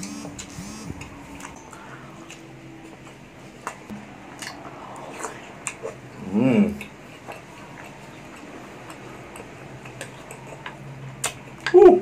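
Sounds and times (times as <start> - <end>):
man chewing with wet mouth clicks: 0.0 - 6.0, 6.7 - 12.0
loud rising and falling hum: 0.0 - 11.7.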